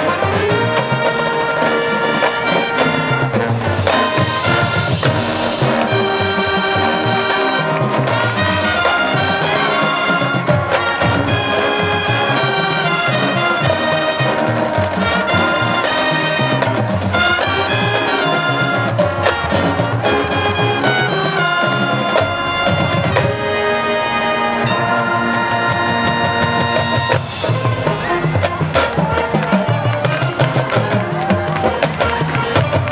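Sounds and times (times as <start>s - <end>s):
marching band playing: 0.0s - 32.9s.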